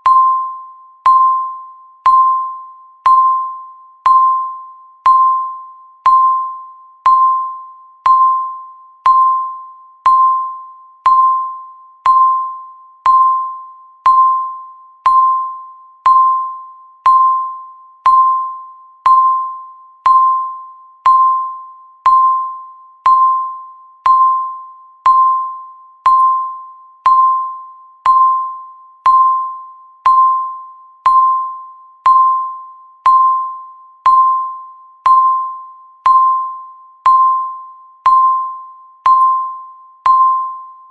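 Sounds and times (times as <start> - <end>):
ringing bell-like timer tone: 0.0 - 40.9.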